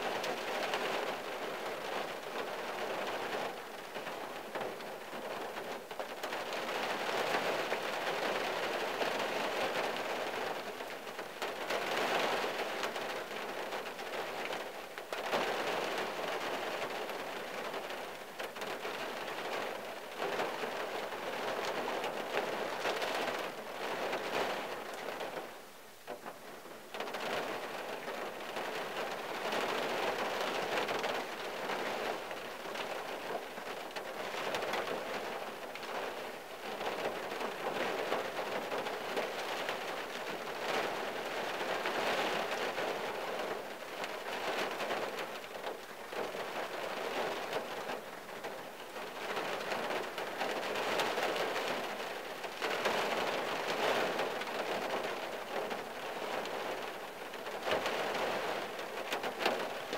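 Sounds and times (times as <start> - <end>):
rain pattering on car windshield: 0.0 - 59.9.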